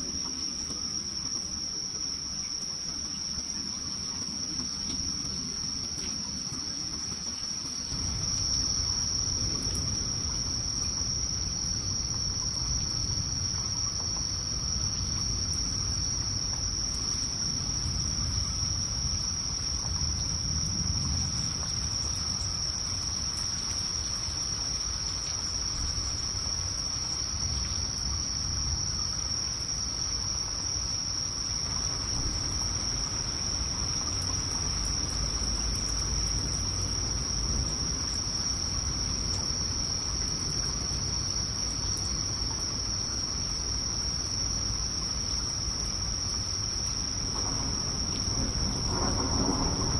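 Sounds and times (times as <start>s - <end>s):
night insects trilling: 0.0s - 49.9s.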